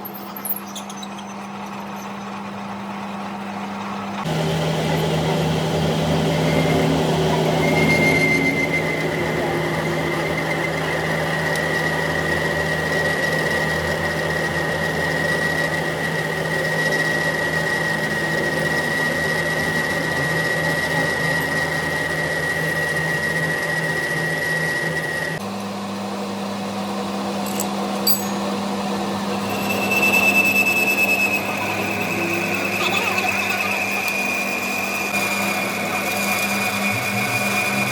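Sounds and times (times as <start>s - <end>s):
machine high whine: 0.0s - 37.9s
machine low hum: 1.2s - 37.9s.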